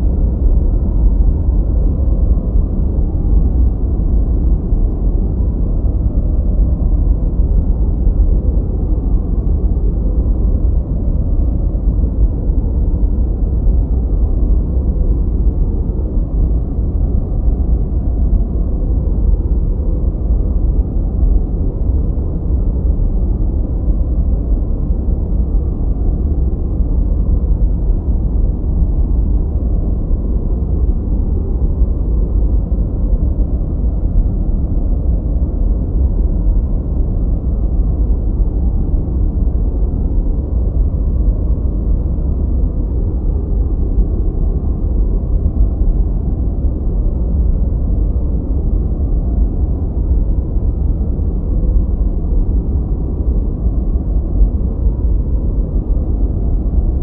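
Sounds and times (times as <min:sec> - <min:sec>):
muffled white noise: 0:00.0 - 0:57.0.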